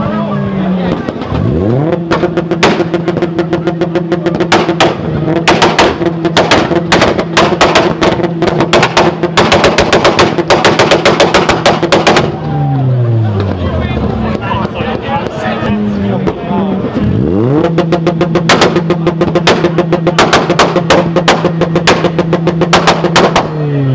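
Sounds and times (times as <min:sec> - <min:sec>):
car engine revving high: 0:00.0 - 0:23.9
exhaust pops and bangs: 0:00.9 - 0:12.5, 0:13.3 - 0:15.5, 0:17.6 - 0:23.6.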